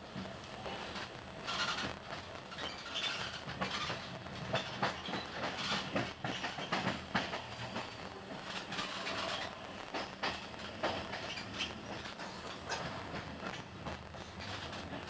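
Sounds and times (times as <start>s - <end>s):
train rumbling: 0.0s - 15.0s
wheels clicking on track: 0.1s - 15.0s.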